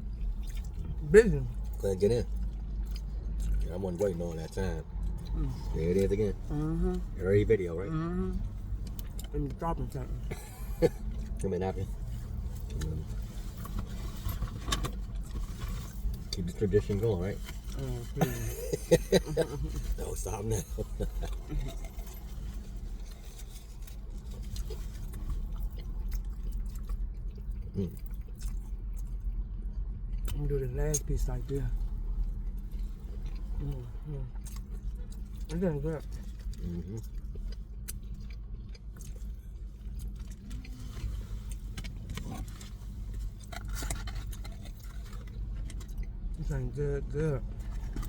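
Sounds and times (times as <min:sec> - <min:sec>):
chewing food: 0:00.0 - 0:07.6, 0:08.3 - 0:46.6
low steady hum: 0:00.0 - 0:48.0.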